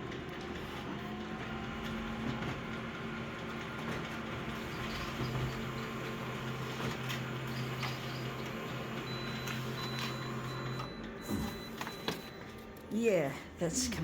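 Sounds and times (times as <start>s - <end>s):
photocopier humming: 0.0s - 14.0s.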